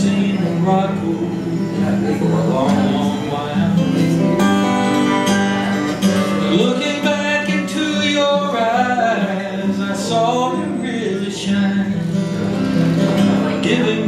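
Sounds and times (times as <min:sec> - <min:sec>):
acoustic guitars strumming: 0:00.0 - 0:14.0
pitch-bending guitar melody: 0:00.0 - 0:14.0.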